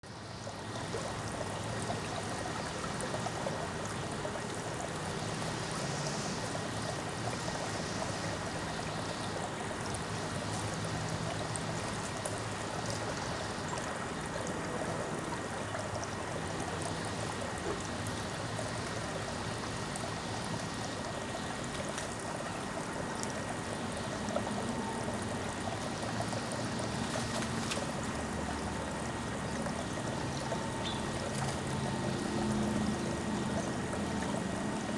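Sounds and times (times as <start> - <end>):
running water trickling: 0.0 - 34.9.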